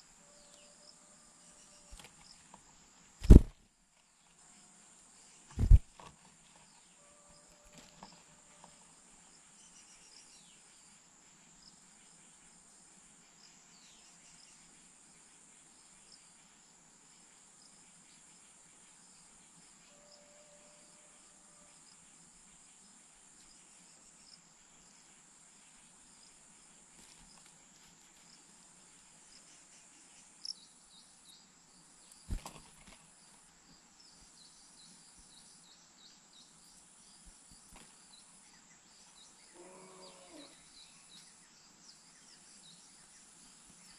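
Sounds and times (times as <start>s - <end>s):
insects buzzing: 4.8s - 10.9s, 11.6s - 43.9s.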